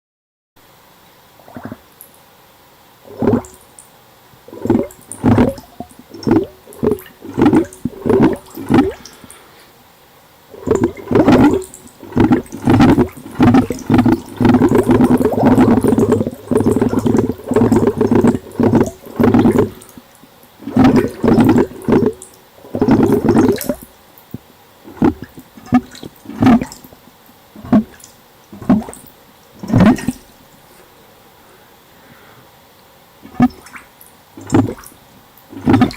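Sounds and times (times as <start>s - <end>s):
underwater bubbles gurgling: 1.4s - 1.9s, 3.0s - 3.8s, 4.4s - 9.4s, 10.4s - 30.4s, 33.2s - 35.9s.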